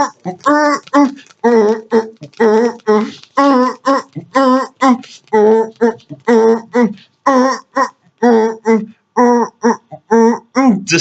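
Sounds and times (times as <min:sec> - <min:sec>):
high voice singing unaccompanied: 0:00.0 - 0:10.8.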